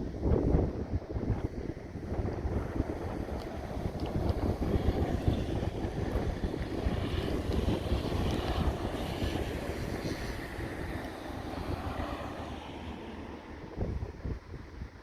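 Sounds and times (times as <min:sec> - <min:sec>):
distant jet engines: 0:00.0 - 0:15.0
wind buffeting microphone: 0:00.0 - 0:15.0.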